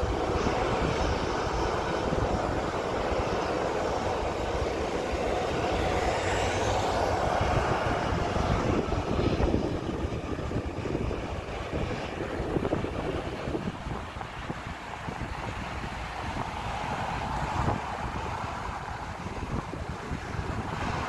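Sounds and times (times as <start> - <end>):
jet engines running: 0.0 - 21.0
wind buffeting microphone: 0.0 - 21.0.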